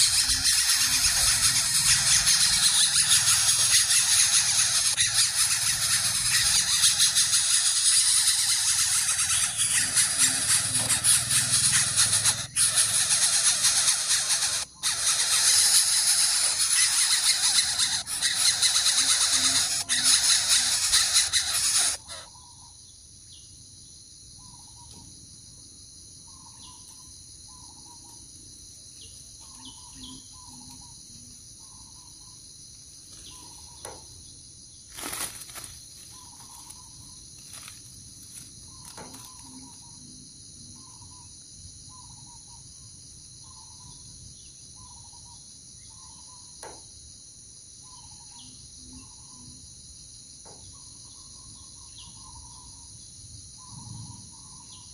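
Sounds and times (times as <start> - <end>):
high-pitched insect chorus: 0.0 - 54.9.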